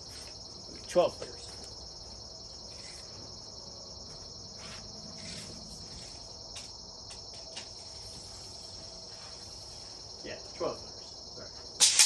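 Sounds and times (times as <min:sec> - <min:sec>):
insect chorus chirring: 0:00.0 - 0:12.0.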